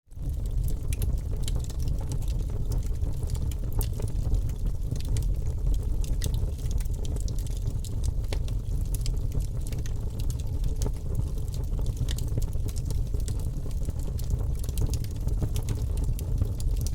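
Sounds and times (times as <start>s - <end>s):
wood fire crackling: 0.1s - 16.9s.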